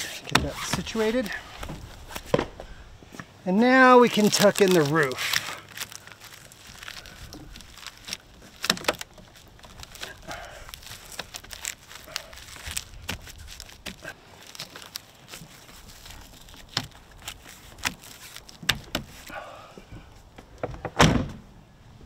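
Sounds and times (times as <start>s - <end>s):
fabric rustling and crinkling: 0.0s - 2.8s, 3.7s - 19.3s.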